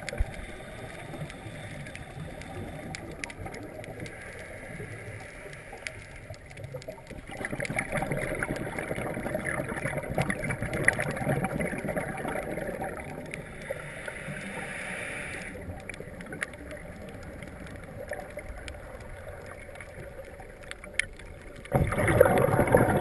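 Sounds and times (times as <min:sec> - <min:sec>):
faint clicks: 0:00.0 - 0:22.5
regulator bubbles underwater: 0:00.0 - 0:23.0.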